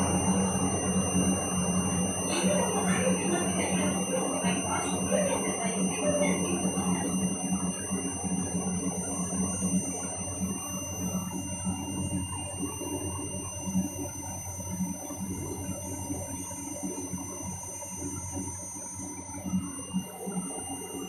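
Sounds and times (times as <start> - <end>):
crt monitor whining tones: 0.0 - 21.0.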